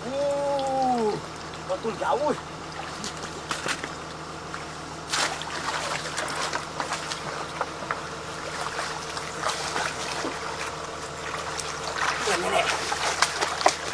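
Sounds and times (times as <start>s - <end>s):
steady low hum: 0.0s - 13.9s
water splashing and trickling: 0.0s - 13.9s.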